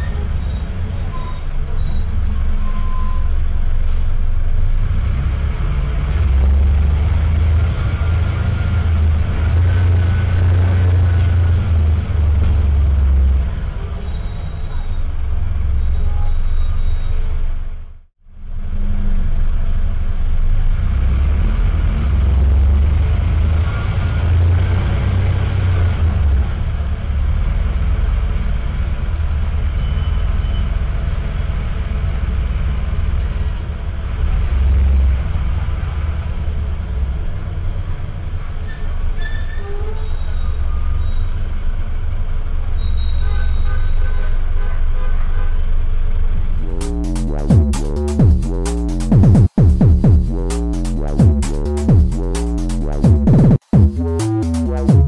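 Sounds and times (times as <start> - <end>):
bus diesel engine rumble: 0.0 - 54.9.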